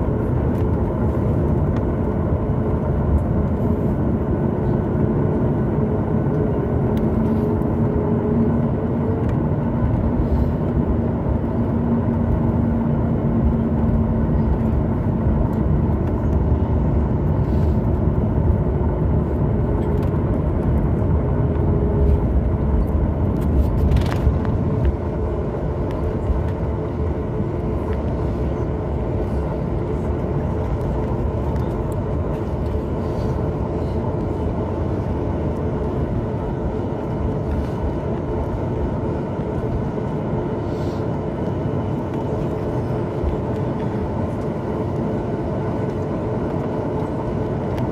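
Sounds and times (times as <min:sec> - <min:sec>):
jet engines droning rumble: 0:00.0 - 0:47.9.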